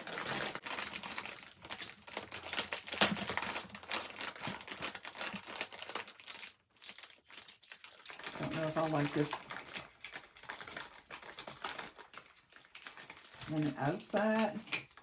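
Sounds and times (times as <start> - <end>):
snack bags crinkling: 0.0 - 15.0.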